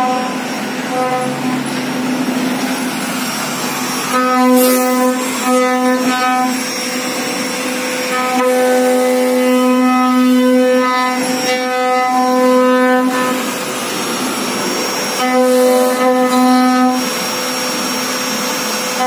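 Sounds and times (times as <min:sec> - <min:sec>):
noisy rush of carving wood: 0:00.0 - 0:19.0
router spindle motor whine: 0:00.0 - 0:19.0.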